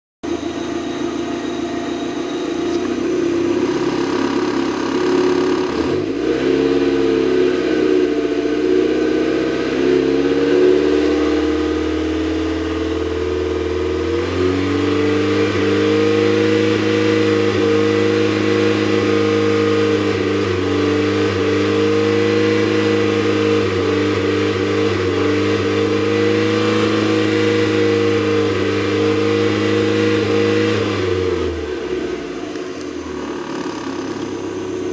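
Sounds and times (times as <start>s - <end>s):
car engine running with a misfire: 0.2s - 34.9s.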